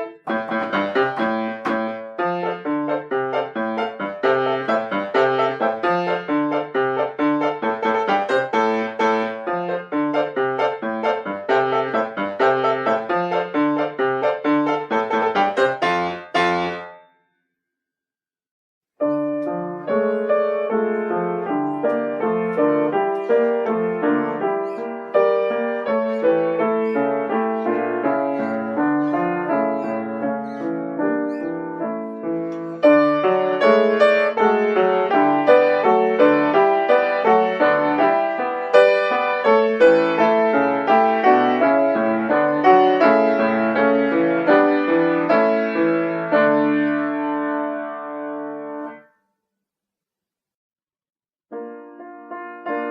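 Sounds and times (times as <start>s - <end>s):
solo piano: 0.0s - 17.1s, 19.0s - 49.1s, 51.5s - 52.9s.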